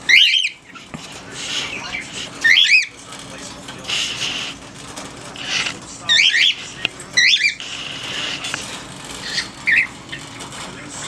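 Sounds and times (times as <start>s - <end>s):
birds squawking: 0.0s - 10.5s
bird chatter: 0.0s - 11.0s
birds chirping: 0.0s - 11.0s.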